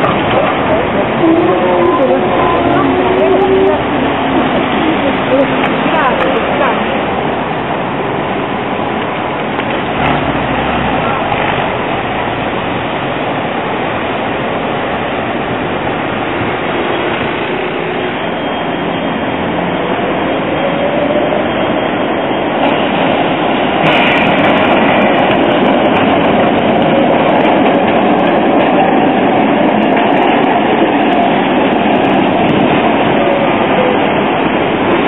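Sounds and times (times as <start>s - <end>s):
city street traffic: 0.0s - 35.0s
tram running over rails: 0.0s - 35.0s.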